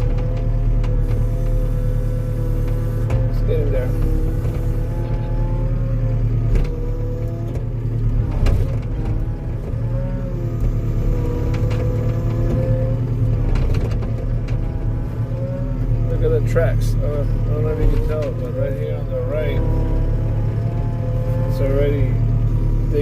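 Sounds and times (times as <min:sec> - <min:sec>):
skid steer engine running: 0:00.0 - 0:23.0.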